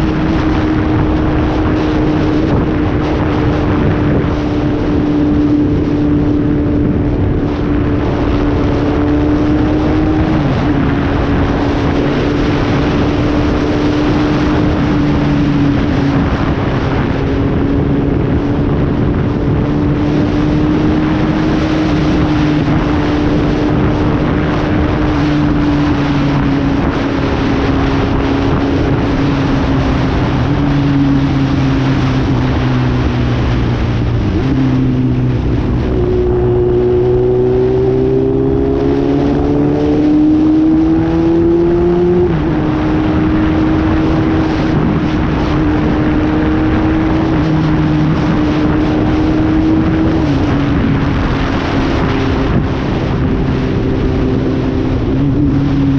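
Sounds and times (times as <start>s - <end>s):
motorcycle engine: 0.0s - 55.9s
wind noise on microphone: 0.0s - 55.9s.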